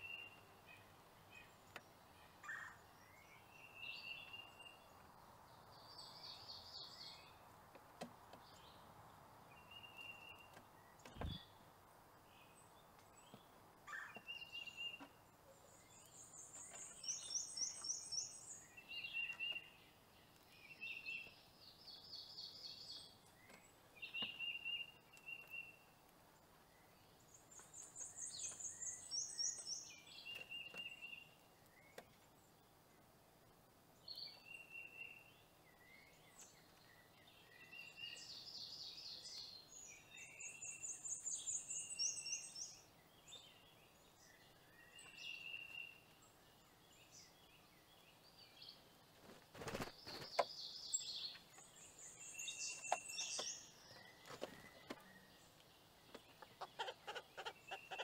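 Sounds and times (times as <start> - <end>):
songbirds trilling and chirping: 0.0 - 58.0.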